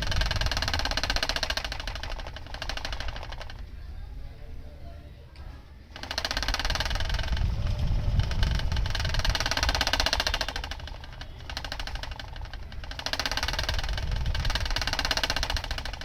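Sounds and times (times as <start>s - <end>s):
electric fan clattering rattle: 0.0s - 16.0s.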